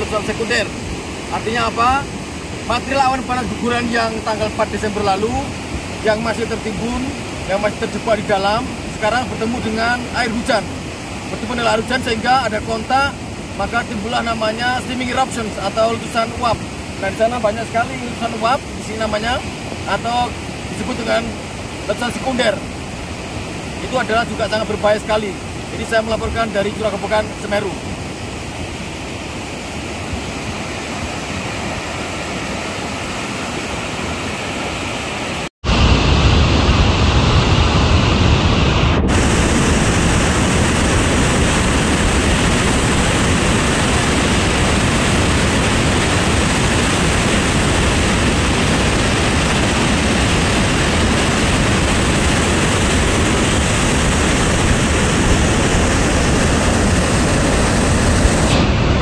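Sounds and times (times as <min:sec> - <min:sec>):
rushing mud flood: 0:00.0 - 0:59.0.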